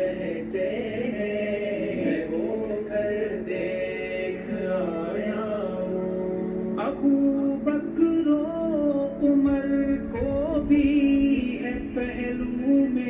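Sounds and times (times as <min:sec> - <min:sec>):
person singing slow melody: 0:00.0 - 0:13.0.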